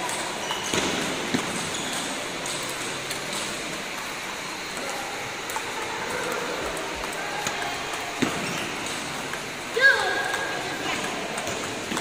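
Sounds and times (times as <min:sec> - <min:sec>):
table tennis ball striking paddle: 0:00.0 - 0:04.1, 0:05.5 - 0:12.0
sports hall background noise: 0:00.0 - 0:12.0.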